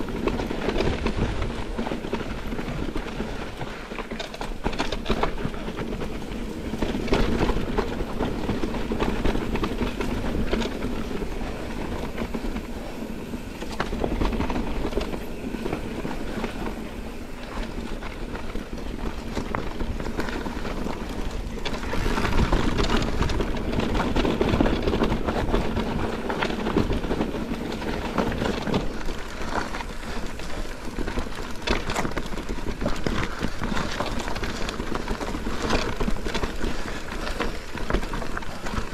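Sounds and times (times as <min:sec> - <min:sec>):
bike rattling and clattering: 0:00.0 - 0:38.9
tyres crunching over stones: 0:00.0 - 0:38.9.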